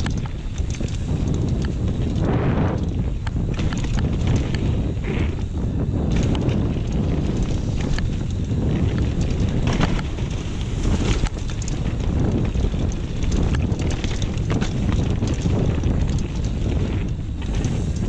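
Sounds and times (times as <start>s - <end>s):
bike rattling over dirt: 0.0s - 18.0s
wind buffeting microphone: 0.0s - 18.0s.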